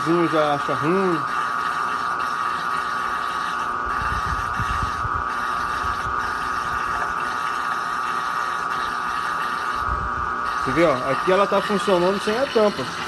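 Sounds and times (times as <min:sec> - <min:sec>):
washing machine spinning with whine: 0:00.0 - 0:13.0.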